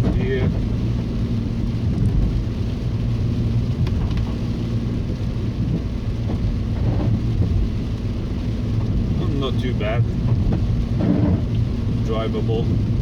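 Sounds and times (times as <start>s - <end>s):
car engine rumble: 0.0s - 13.0s
tyres hissing on wet road: 0.0s - 13.0s.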